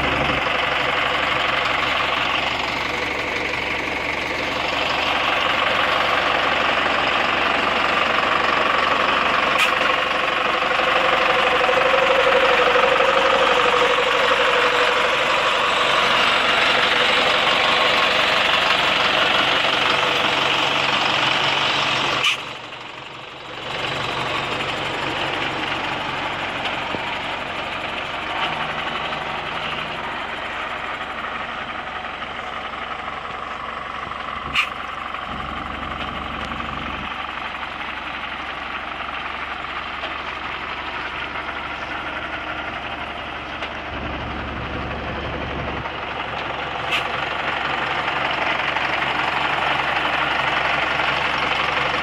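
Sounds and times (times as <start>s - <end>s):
tractor diesel engine idling: 0.0s - 52.0s.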